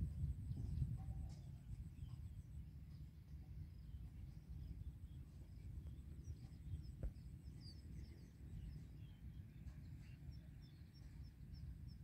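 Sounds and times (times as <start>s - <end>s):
steady low rumble: 0.0s - 12.0s
small birds chirping: 0.5s - 12.0s.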